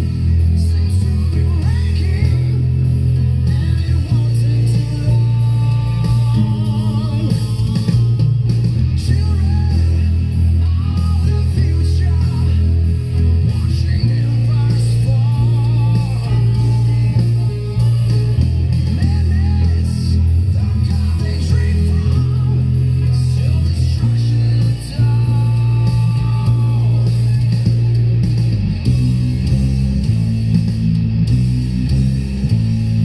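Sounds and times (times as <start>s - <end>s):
bass guitar low notes: 0.0s - 33.0s.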